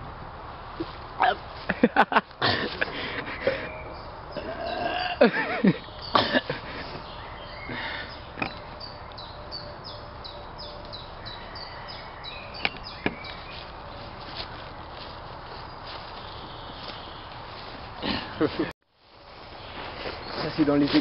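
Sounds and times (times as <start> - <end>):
songbird chirping: 3.0 - 18.6, 19.4 - 21.0.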